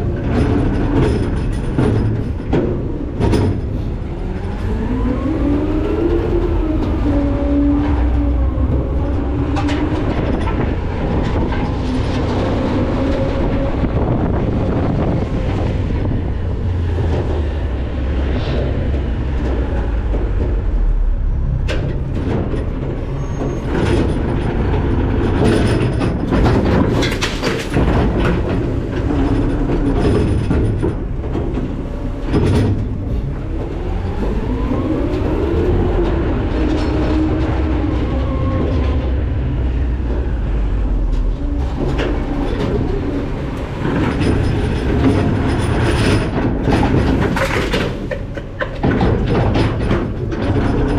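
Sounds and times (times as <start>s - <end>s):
metal clanks and knocks: 0.0s - 4.3s, 7.8s - 38.0s, 38.6s - 50.9s
garbage truck rumble: 0.0s - 50.9s.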